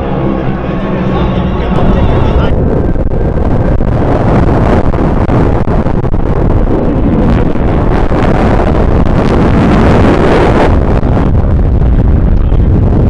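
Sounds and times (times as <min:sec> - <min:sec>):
propeller plane engines droning: 0:00.0 - 0:12.7
wind buffeting on microphone: 0:00.0 - 0:13.0.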